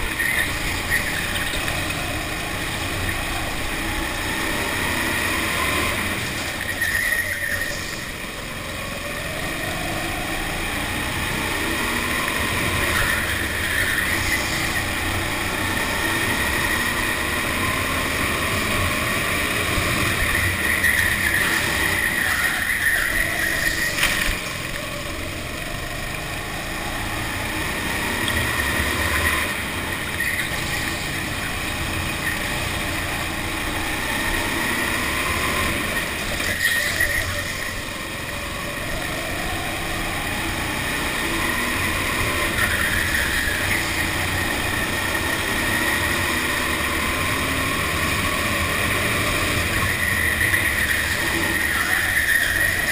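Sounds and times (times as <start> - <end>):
go-kart engine revving: 0.0 - 52.9.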